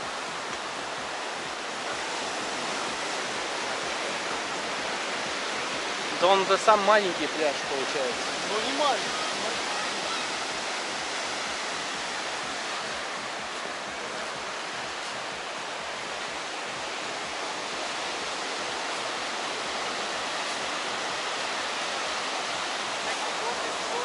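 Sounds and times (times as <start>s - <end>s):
surf breaking on beach: 0.0s - 24.0s.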